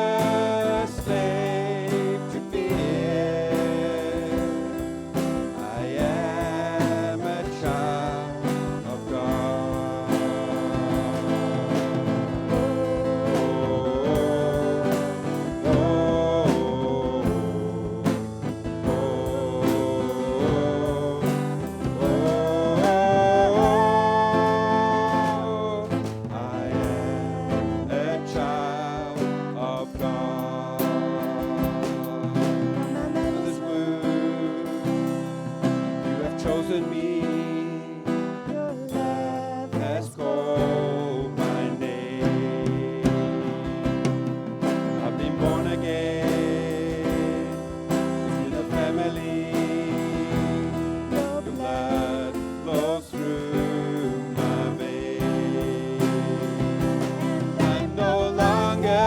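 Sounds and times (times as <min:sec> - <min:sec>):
bass guitar: 0:00.0 - 0:37.8, 0:38.4 - 0:59.0
guitar: 0:00.0 - 0:59.0
people singing worship music: 0:00.0 - 0:59.0.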